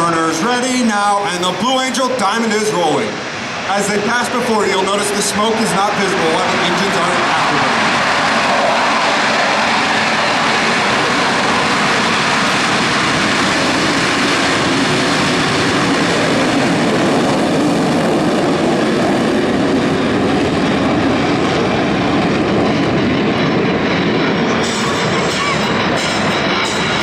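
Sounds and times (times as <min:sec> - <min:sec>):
jet roar: 0:00.0 - 0:27.0.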